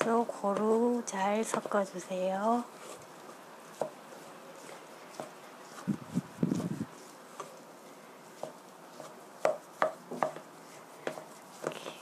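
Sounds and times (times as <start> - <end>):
soft squishy thumps of dough: 0.0 - 12.0.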